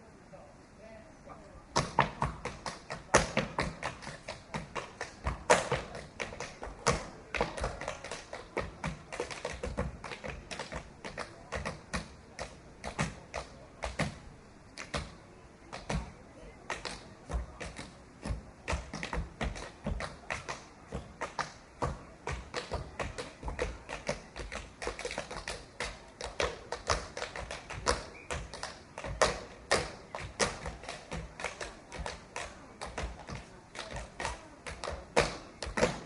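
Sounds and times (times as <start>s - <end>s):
tap shoes clicking on hard floor: 1.8s - 14.2s, 16.7s - 36.0s.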